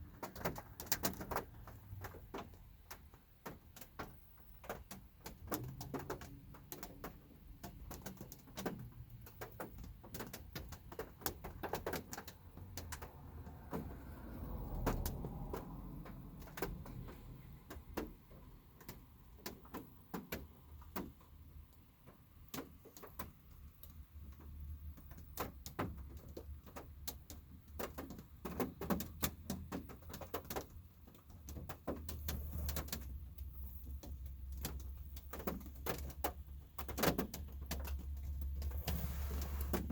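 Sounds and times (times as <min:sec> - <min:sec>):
raindrops tapping on car: 0:00.0 - 0:39.9.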